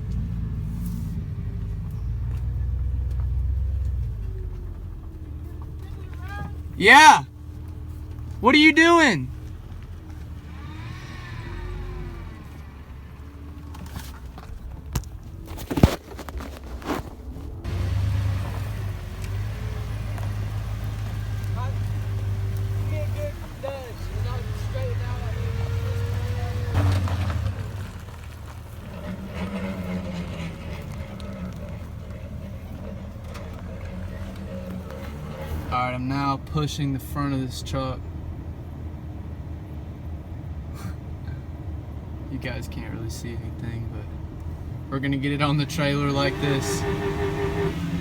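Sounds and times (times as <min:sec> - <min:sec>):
pickup truck engine rumbling: 0:00.0 - 0:48.0.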